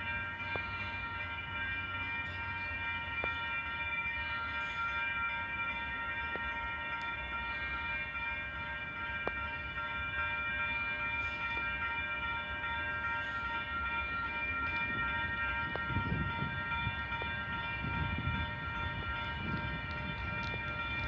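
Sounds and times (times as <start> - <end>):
level-crossing bell ringing: 0.0 - 21.0.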